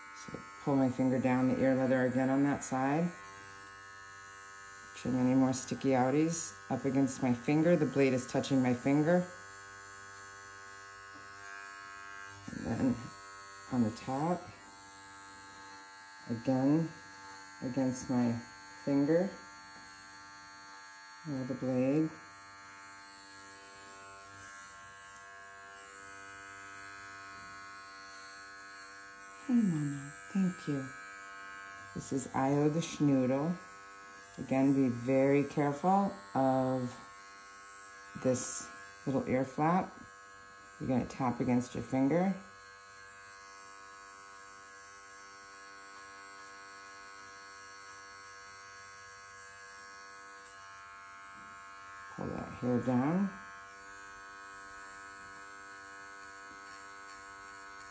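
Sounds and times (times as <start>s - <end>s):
hair clipper buzzing: 0.0s - 57.9s.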